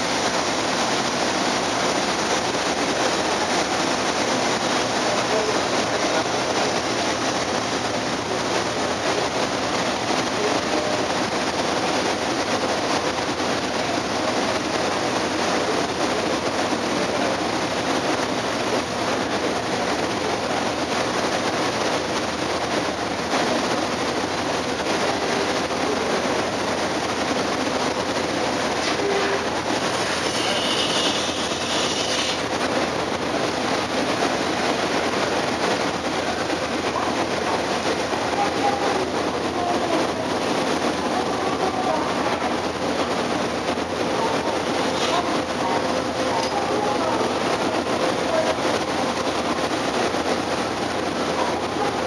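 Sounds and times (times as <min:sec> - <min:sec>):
ship engines: 0:00.0 - 0:52.0.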